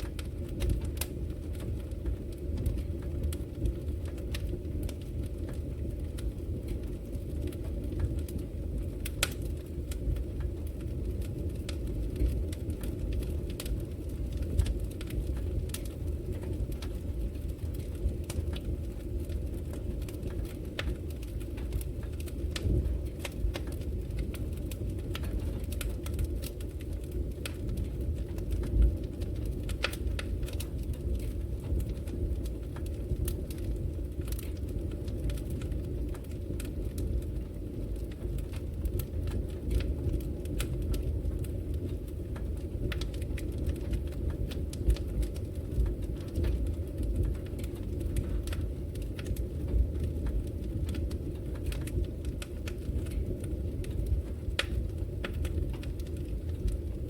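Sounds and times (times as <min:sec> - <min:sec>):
logs burning in a fireplace: 0:00.0 - 0:57.0.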